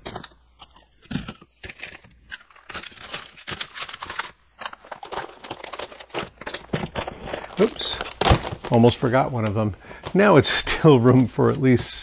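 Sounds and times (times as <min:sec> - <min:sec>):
foil pouches crinkling: 0:00.0 - 0:12.0.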